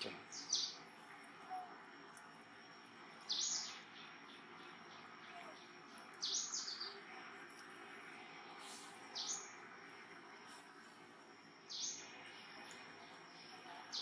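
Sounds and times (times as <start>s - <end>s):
faint outdoor background hiss: 0.0s - 14.0s
wild birds chirping: 0.0s - 14.0s.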